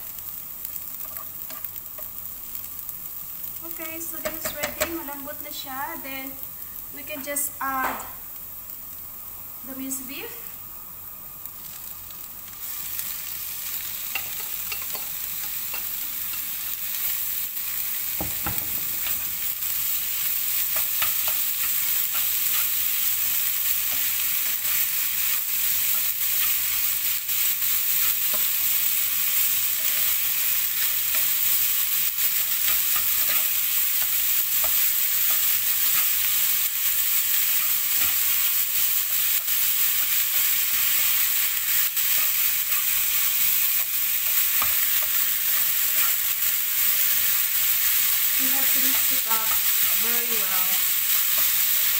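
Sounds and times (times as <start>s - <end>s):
meat sizzling in a pan: 0.0s - 51.9s.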